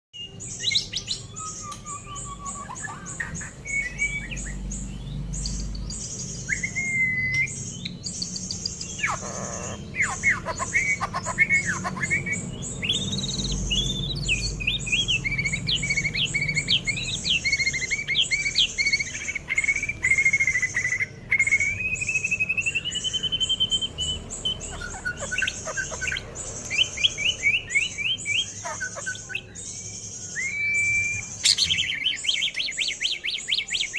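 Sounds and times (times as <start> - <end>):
bird singing whistled notes: 0.1 - 33.9
high-pitched bird chatter: 0.2 - 33.9.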